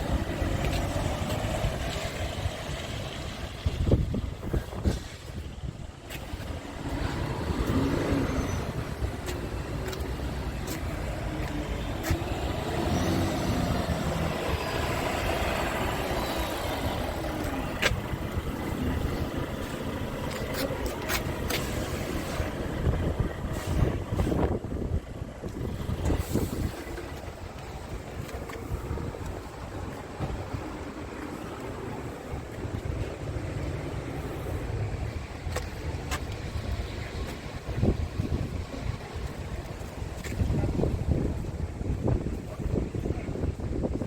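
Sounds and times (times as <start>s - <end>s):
truck diesel engine running: 0.0s - 44.0s.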